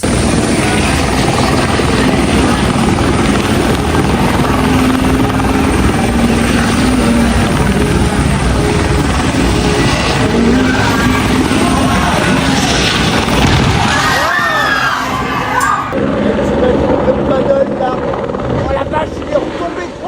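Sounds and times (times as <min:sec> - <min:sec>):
helicopter rotor and engine: 0:00.0 - 0:20.0.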